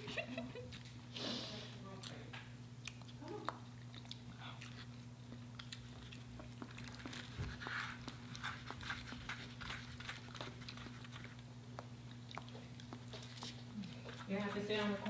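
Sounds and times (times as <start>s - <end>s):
low electrical hum: 0.0s - 15.0s
chewing crispy fried chicken: 1.8s - 15.0s.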